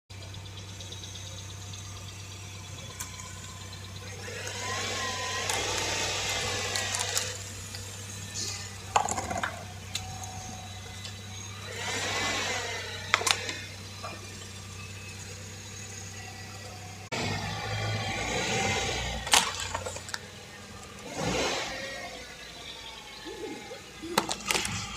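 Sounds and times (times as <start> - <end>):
steady low hum: 0.1 - 24.9.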